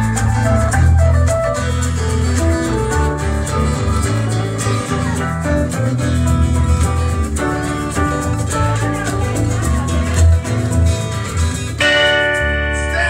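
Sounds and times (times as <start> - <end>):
keyboard: 0.0 - 13.0
second guitar: 0.0 - 13.0
steady low bass line: 0.0 - 13.0
strummed acoustic guitar: 0.0 - 13.0.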